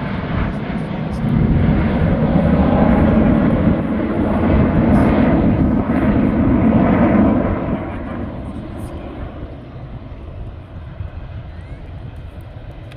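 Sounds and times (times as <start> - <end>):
jet aircraft passing: 0.0 - 12.9.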